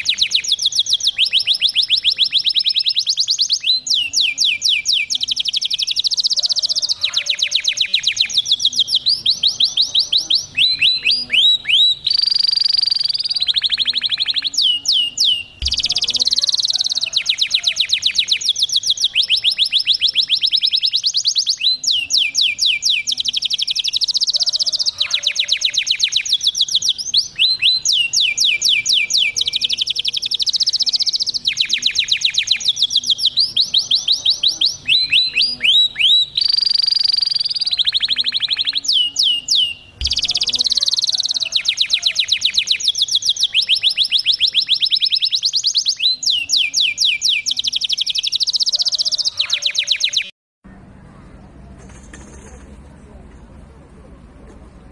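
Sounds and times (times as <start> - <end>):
canary singing trills: 0.0 - 50.3.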